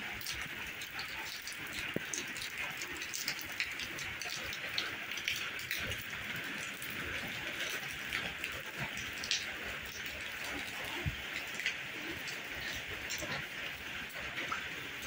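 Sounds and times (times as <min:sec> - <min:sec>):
raindrops ticking on surfaces: 0:00.0 - 0:15.0
steady rain falling: 0:00.0 - 0:15.0.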